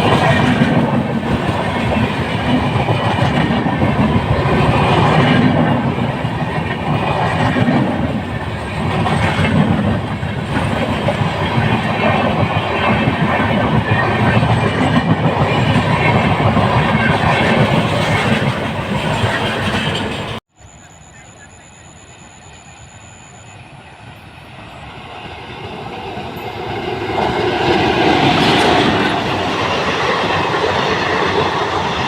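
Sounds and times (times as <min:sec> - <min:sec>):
train wheels rumbling on rails: 0:00.0 - 0:20.8, 0:22.9 - 0:32.0.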